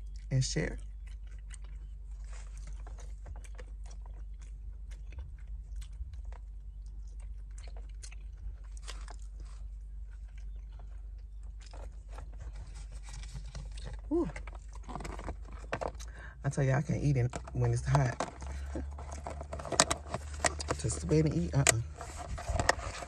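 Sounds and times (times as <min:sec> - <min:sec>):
person chewing food: 0:00.0 - 0:16.4, 0:17.4 - 0:23.0
low steady rumble: 0:00.0 - 0:23.0.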